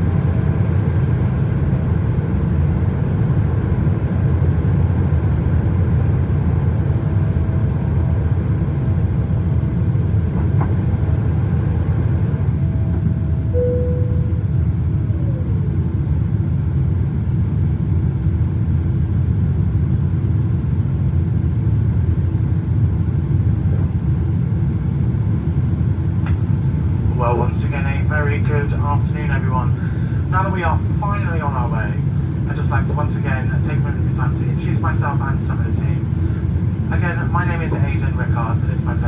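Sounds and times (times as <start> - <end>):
jet engine roar in cabin: 0.0 - 39.0.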